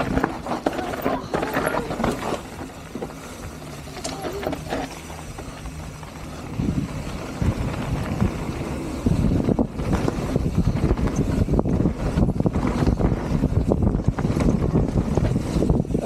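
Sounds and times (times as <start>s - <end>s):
bike rattling: 0.0s - 16.0s
bike tyres on dirt: 0.0s - 16.0s.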